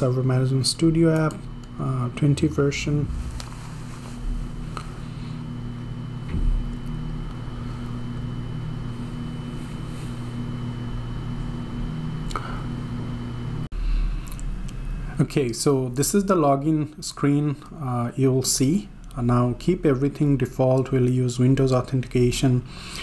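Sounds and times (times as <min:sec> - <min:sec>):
faint high whine: 0:00.0 - 0:21.6
low electrical hum: 0:00.0 - 0:23.0.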